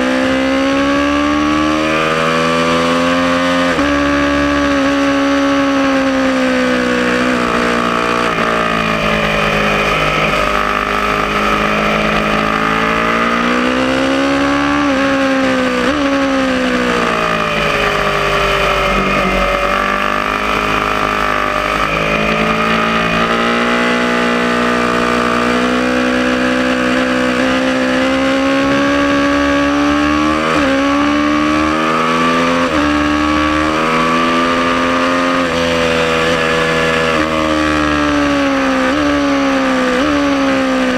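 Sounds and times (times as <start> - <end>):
motorcycle engine racing: 0.0 - 40.9.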